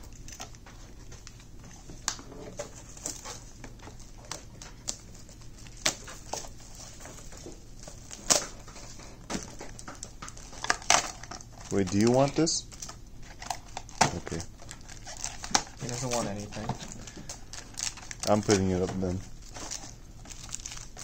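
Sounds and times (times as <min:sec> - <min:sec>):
card packs tapping and rustling: 0:00.1 - 0:21.0.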